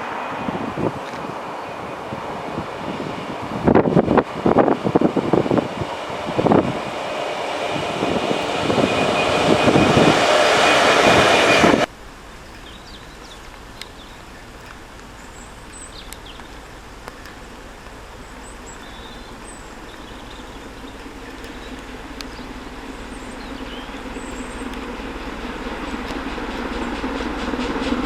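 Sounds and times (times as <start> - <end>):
train passing: 0.0 - 28.0.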